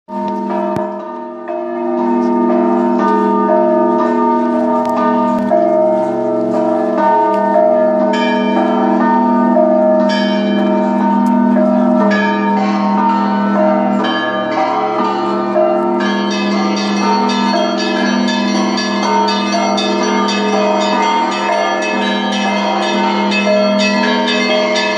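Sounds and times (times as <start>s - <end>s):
small bells ringing: 0.1s - 24.9s.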